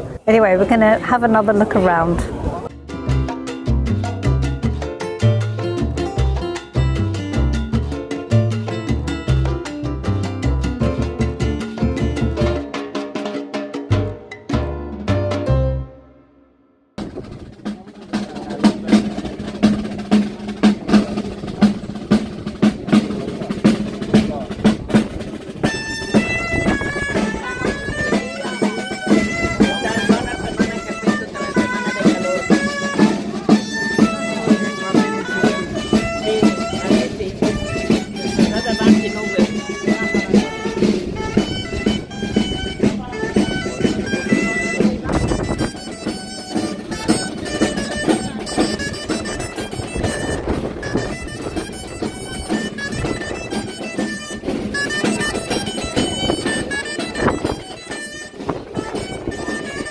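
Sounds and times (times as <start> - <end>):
reed wind instrument melody: 0.0 - 13.0, 13.9 - 59.9
side drum march beat: 0.2 - 15.8, 17.0 - 59.9.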